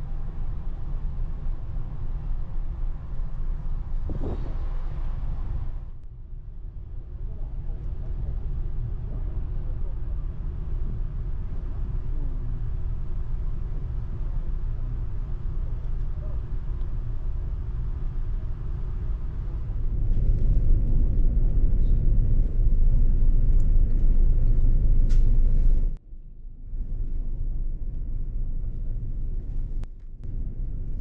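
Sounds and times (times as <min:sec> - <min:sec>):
faint hum: 0:00.0 - 0:31.0
ship engine rumble: 0:00.0 - 0:31.0.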